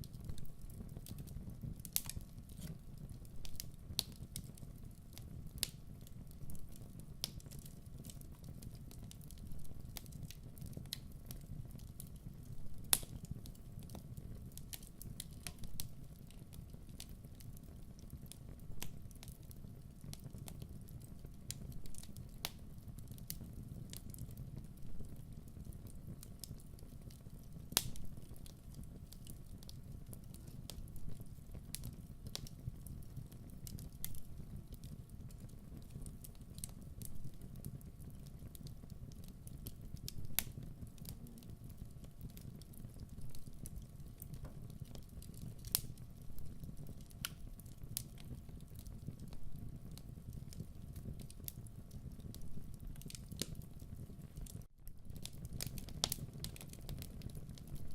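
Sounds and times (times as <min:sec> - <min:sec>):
fire crackles and pops: 0:00.0 - 0:57.9
wood fire rumbling: 0:00.0 - 0:57.9.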